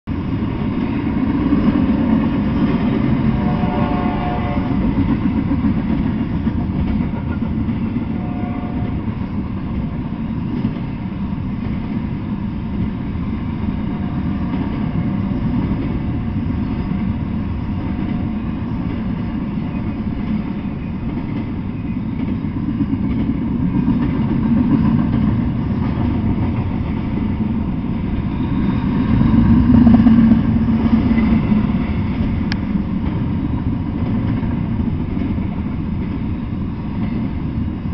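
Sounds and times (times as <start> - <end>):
freight train wheels rumbling: 0.0 - 37.9.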